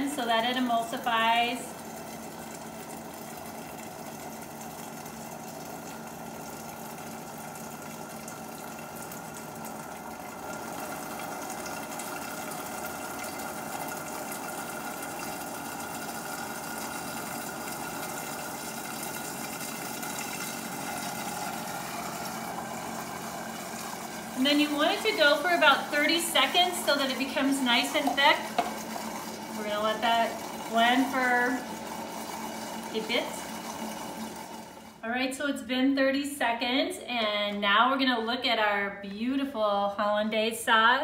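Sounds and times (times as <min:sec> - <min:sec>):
blender running: 0:00.0 - 0:35.6.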